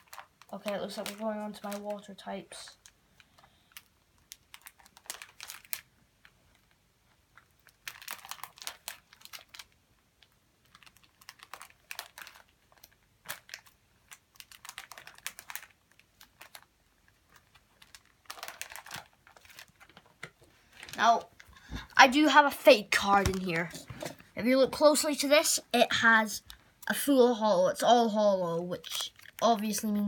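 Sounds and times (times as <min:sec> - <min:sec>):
plastic sleeve pages crinkling: 0:00.0 - 0:26.8, 0:28.6 - 0:30.0.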